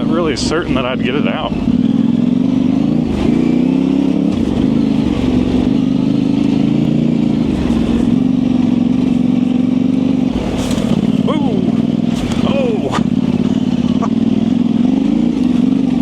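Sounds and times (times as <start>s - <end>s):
motorcycle engine at part throttle: 0.0s - 16.0s.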